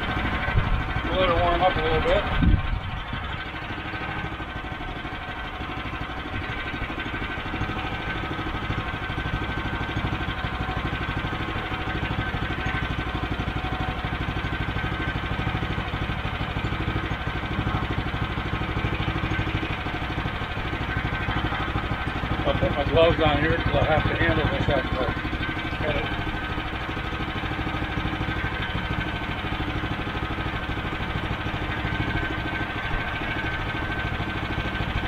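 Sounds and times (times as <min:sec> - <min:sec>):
gas engine idling: 0:00.0 - 0:35.0.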